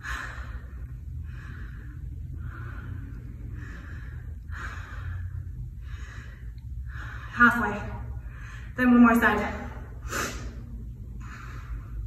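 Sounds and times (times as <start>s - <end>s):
woman breathing hard: 0.0s - 8.8s, 9.8s - 12.0s
steady low hum: 0.0s - 12.0s.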